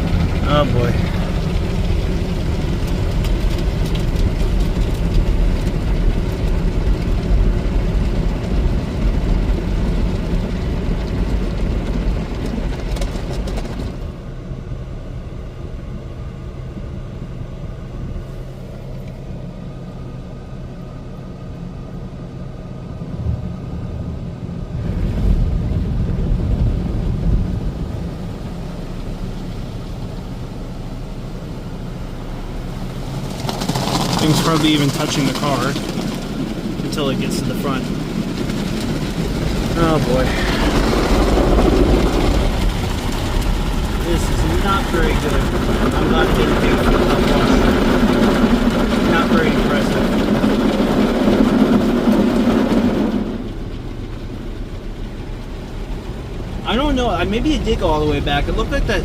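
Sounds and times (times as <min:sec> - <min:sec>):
car wash spray and machinery: 0:00.0 - 0:59.0
steady low hum: 0:00.0 - 0:59.0.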